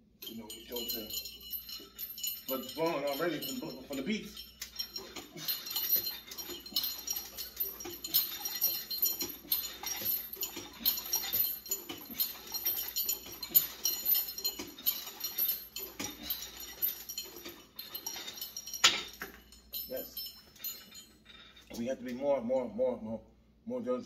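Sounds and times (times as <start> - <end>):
pulldown bar chain jingling: 0.0 - 22.9
weight stack clinking: 0.1 - 22.2.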